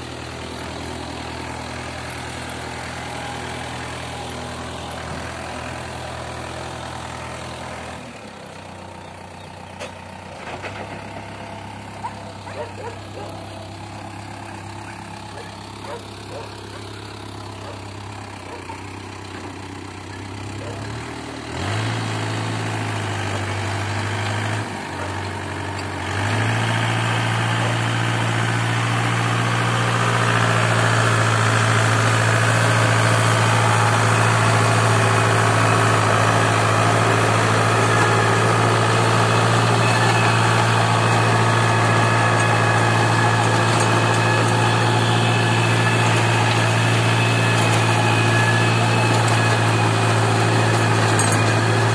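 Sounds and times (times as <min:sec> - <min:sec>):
rotary tiller churning soil: 0:00.0 - 0:08.8, 0:09.8 - 0:51.9
tractor engine drone: 0:00.0 - 0:51.9.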